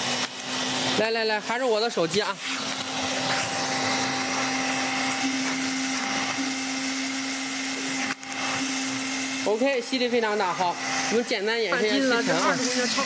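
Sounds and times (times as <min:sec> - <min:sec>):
vacuum cleaner motor running: 0:00.0 - 0:13.0.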